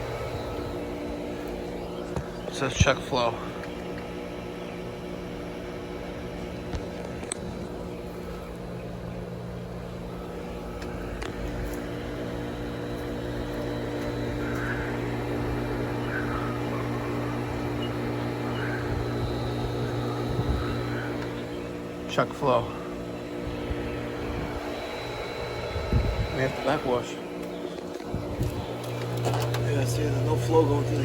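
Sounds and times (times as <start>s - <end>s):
pool pump motor humming: 0.0s - 31.0s.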